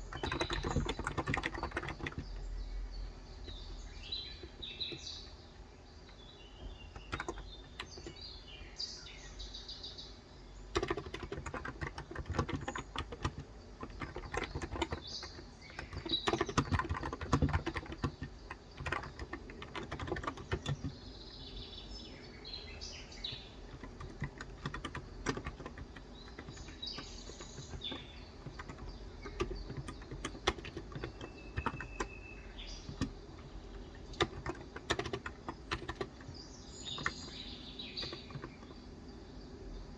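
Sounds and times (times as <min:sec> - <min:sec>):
soft keyboard typing: 0:00.0 - 0:02.8, 0:03.4 - 0:05.4, 0:06.1 - 0:08.5, 0:10.7 - 0:21.3, 0:23.1 - 0:38.9
birds chirping: 0:00.0 - 0:39.9.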